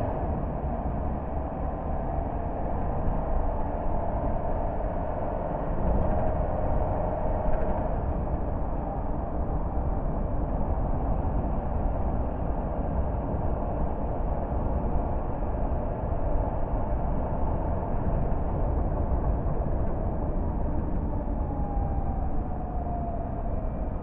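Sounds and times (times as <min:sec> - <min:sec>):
car tyre and engine rumble: 0:00.0 - 0:24.0.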